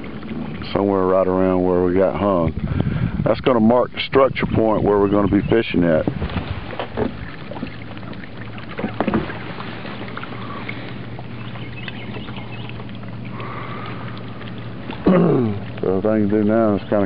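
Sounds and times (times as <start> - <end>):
water and air hiss: 0.0 - 4.0, 5.4 - 17.0
boat motor humming: 0.0 - 17.0.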